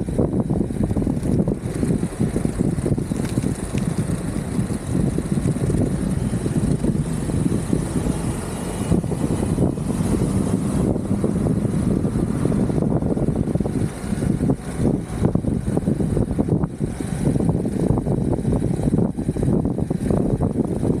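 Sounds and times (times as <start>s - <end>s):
skateboard wheels rumbling on road: 0.0s - 21.0s
wind buffeting microphone: 0.0s - 21.0s.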